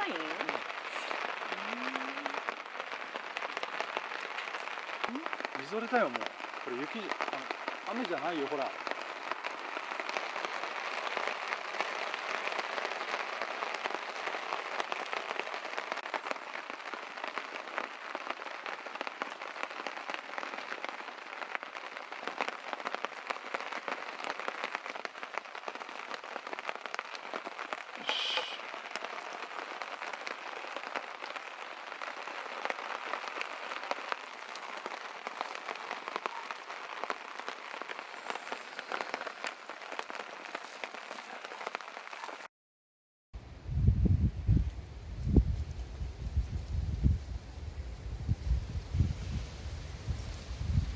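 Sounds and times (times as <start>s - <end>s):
sleet and rain falling: 0.0s - 42.5s, 43.4s - 50.9s.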